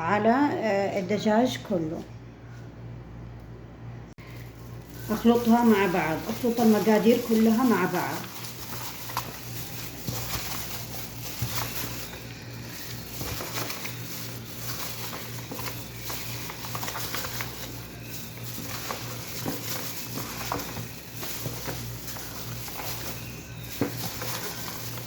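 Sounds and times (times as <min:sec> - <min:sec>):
hands squishing raw chicken: 0:04.2 - 0:25.0.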